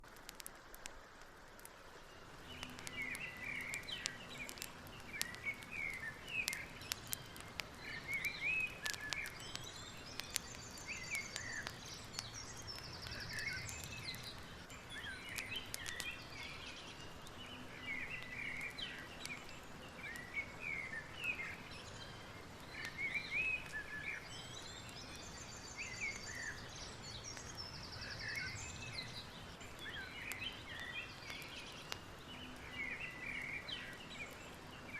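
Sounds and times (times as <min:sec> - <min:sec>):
background noise: 0:00.0 - 0:34.9
crackling clicks: 0:00.0 - 0:34.9
birds chirping and singing: 0:02.4 - 0:34.9.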